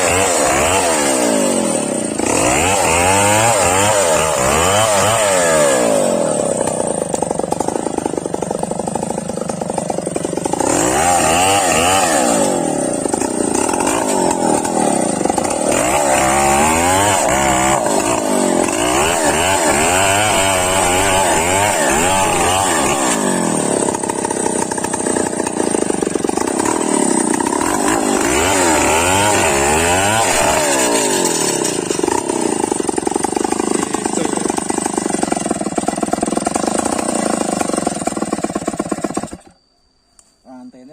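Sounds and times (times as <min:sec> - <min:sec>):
chainsaw cutting wood: 0:00.0 - 0:39.6.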